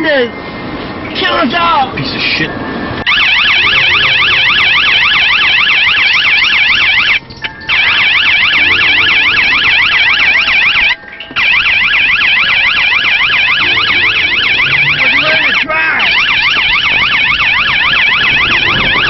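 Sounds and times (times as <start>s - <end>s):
police siren yelping: 1.2s - 19.0s.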